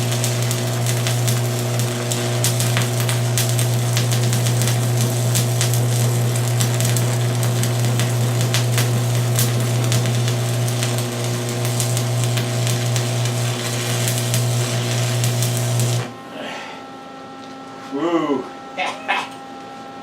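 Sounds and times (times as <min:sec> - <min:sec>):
welding arc crackling: 0:00.0 - 0:16.2
low welder hum: 0:00.0 - 0:20.0.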